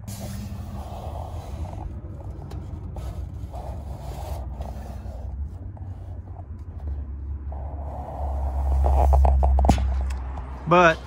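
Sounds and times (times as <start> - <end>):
low rumble: 0.0 - 11.0
phone rubbing and scraping: 0.2 - 10.0.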